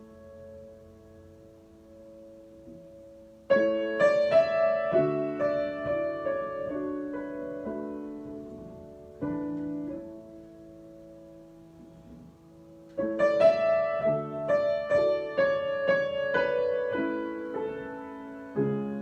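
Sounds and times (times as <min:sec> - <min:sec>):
piano playing: 0:00.0 - 0:19.0.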